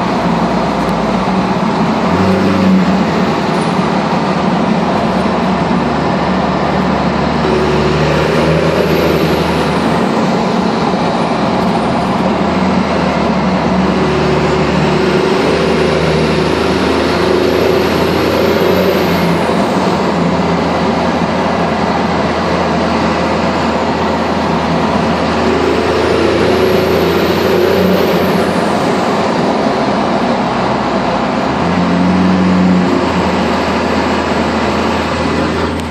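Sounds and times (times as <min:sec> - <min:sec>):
diesel engine running loud: 0:00.0 - 0:35.9.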